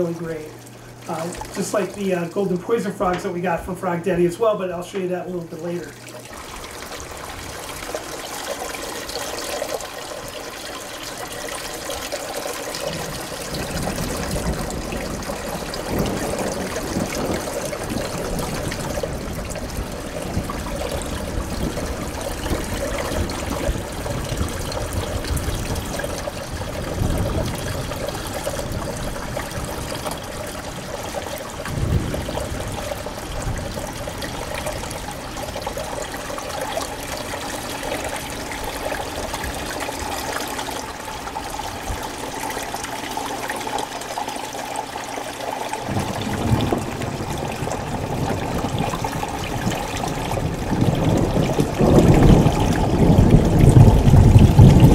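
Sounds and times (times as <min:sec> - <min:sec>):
water trickling and splashing: 0:00.0 - 0:54.9.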